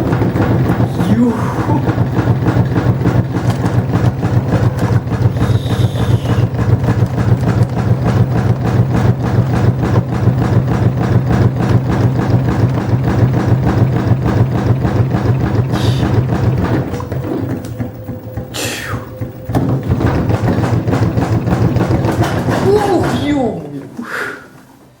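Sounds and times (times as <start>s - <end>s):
washing machine spinning: 0.0s - 25.0s.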